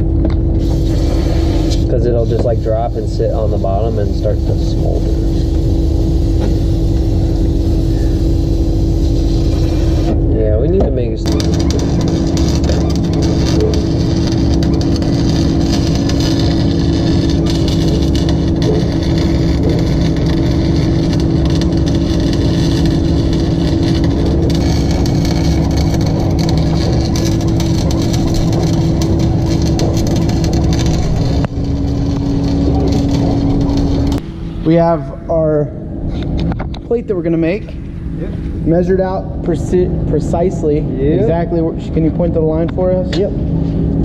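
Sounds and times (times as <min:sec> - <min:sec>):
torch flame humming: 0:00.0 - 0:44.0.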